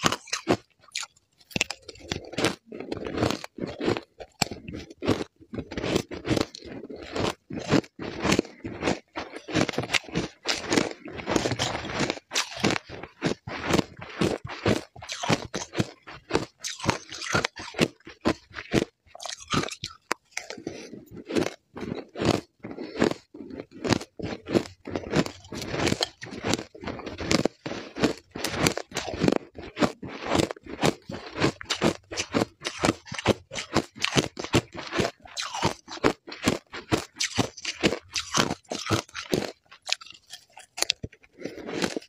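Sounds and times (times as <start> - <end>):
crunching and chewing ice: 0.0 - 42.0.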